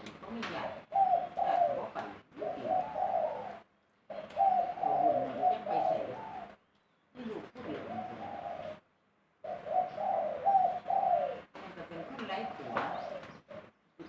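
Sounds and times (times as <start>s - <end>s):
dove cooing: 0.4s - 6.6s, 7.4s - 13.8s.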